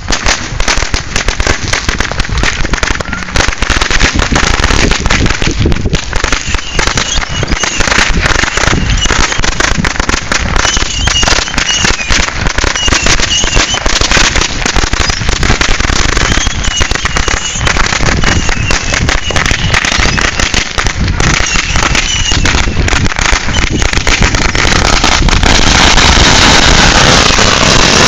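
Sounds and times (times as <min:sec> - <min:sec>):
firecrackers popping: 0:00.0 - 0:28.0.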